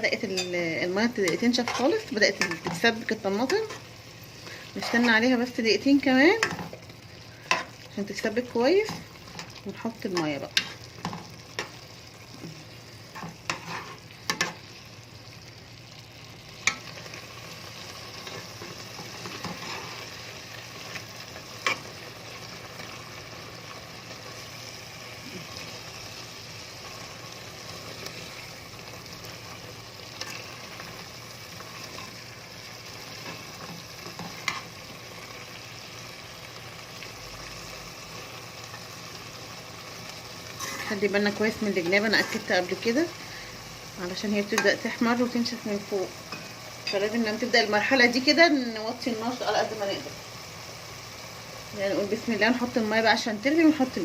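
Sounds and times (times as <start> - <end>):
meat sizzling in a pot: 0.0 - 54.0.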